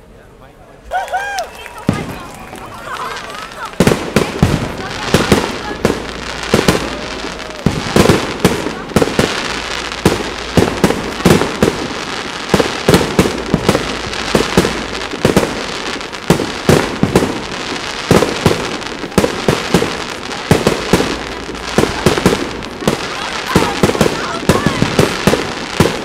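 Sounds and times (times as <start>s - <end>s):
fireworks crackling: 0.8s - 26.0s.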